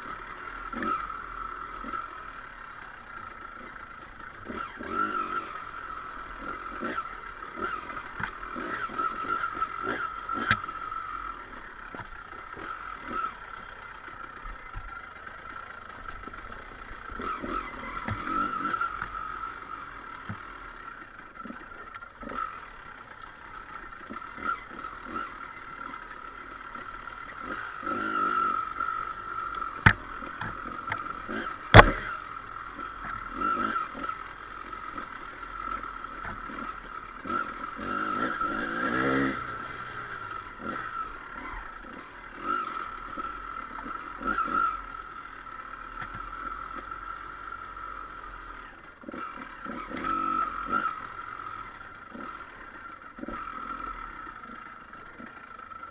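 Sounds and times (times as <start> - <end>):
dirt bike engine: 0.0 - 55.9.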